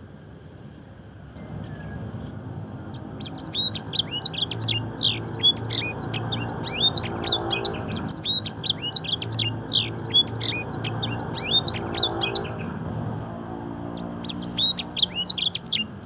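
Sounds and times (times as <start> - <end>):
canary singing: 1.4 - 16.0.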